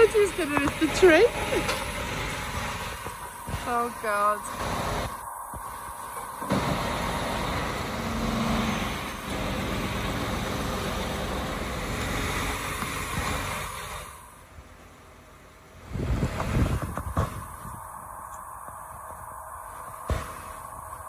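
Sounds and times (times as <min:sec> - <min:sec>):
lorry engine running: 0:00.0 - 0:21.0
steady hum: 0:00.0 - 0:21.0.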